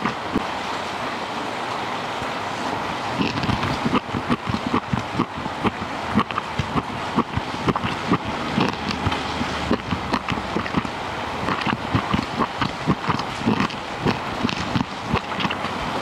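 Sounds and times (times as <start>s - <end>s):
food deep-frying in oil: 3.2s - 16.0s.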